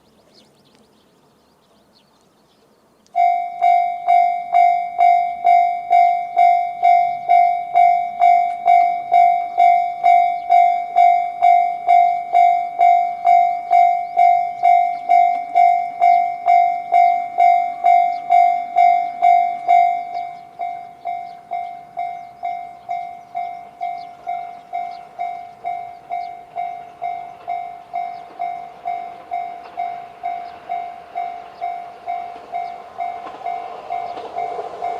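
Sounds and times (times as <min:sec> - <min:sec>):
level crossing electronic bell: 0:03.2 - 0:34.9.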